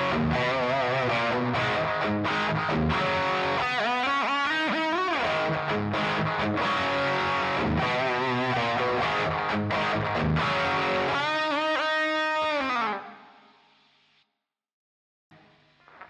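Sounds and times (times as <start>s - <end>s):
distorted electric guitar lead: 0.0s - 14.0s, 15.3s - 16.0s.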